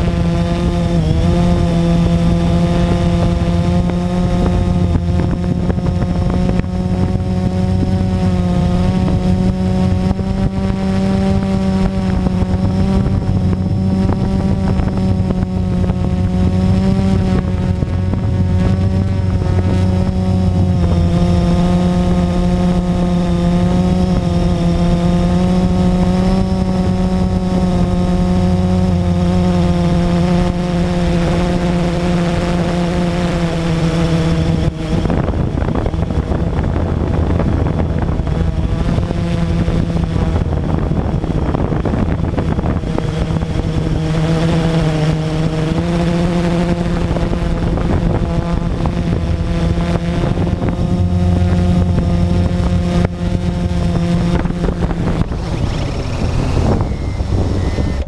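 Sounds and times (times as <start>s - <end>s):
drone motors humming: 0.0s - 58.0s.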